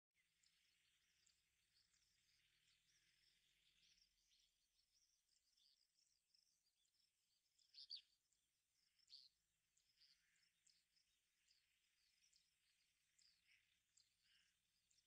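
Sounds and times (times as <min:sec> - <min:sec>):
birds chirping and calling: 0:00.2 - 0:15.0.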